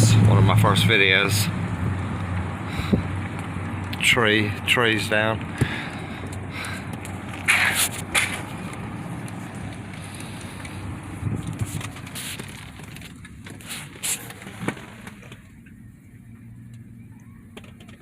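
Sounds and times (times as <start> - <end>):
car rumbling slowly: 0.0 - 18.0.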